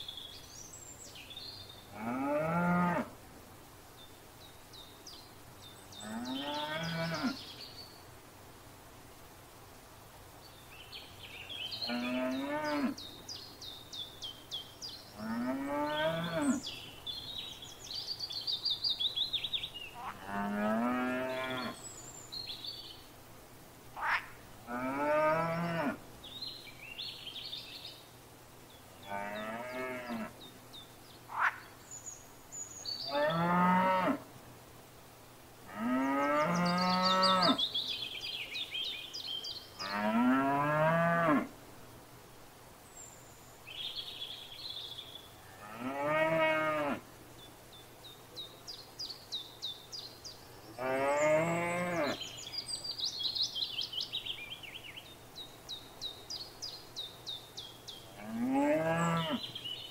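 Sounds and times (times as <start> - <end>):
small birds chirping: 0.0 - 2.8, 3.8 - 8.2, 10.3 - 23.1, 24.0 - 34.0, 35.7 - 40.8, 42.8 - 59.9.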